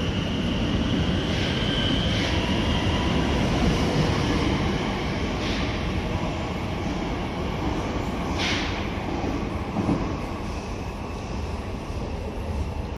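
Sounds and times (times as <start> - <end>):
electric train rumbling: 0.0 - 12.9.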